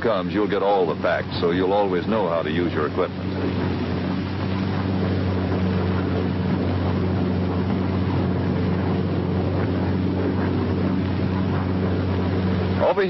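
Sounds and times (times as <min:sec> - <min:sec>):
low hum with hiss: 0:00.0 - 0:13.0.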